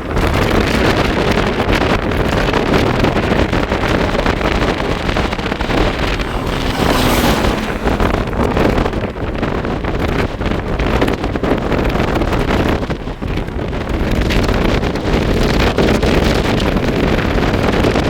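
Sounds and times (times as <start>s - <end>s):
vehicle noise: 0.0s - 16.6s
wind rushing over microphone: 0.0s - 18.0s.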